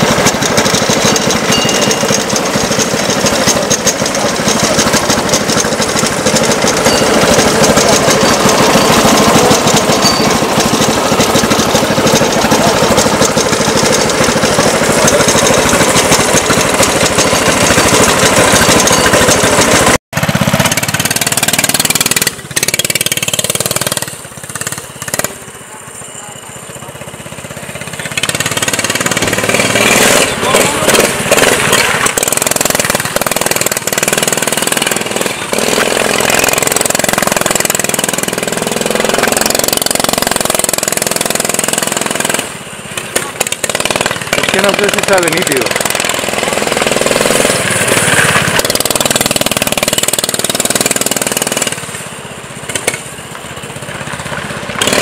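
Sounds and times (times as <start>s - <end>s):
kart driving: 0.0s - 55.0s
kart engine idling: 0.0s - 55.0s.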